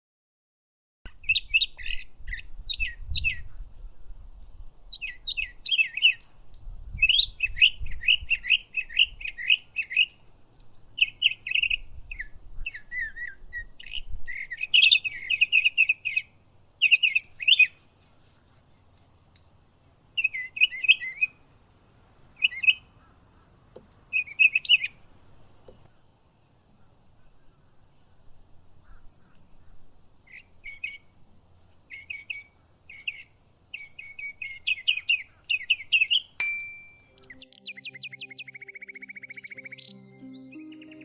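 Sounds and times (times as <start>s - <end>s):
small birds chirping: 1.1s - 41.0s.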